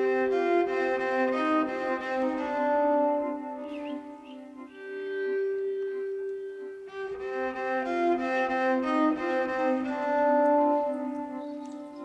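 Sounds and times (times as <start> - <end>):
bowed cello notes: 0.0 - 12.0.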